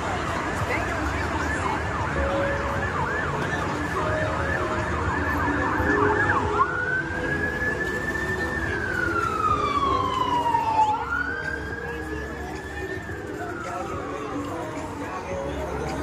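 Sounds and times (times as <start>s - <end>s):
emergency vehicle siren: 0.0s - 16.0s
traffic rumble: 0.0s - 16.0s.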